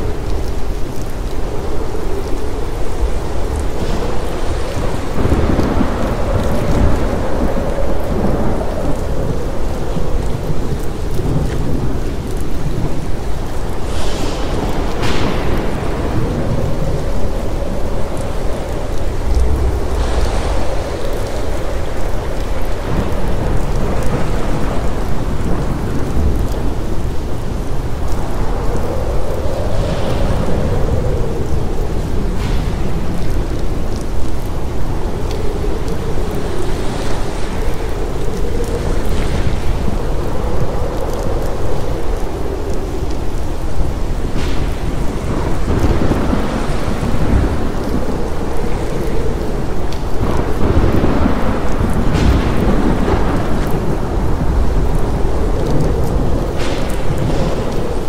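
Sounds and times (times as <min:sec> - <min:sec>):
steady rain: 0:00.0 - 0:58.0
thunder rumbling: 0:00.0 - 0:58.0.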